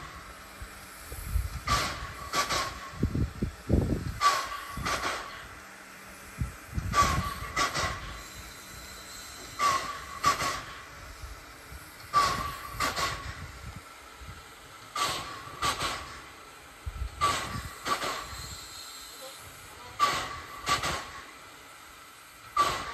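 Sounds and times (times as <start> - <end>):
steam locomotive chuffing: 0.0 - 22.9.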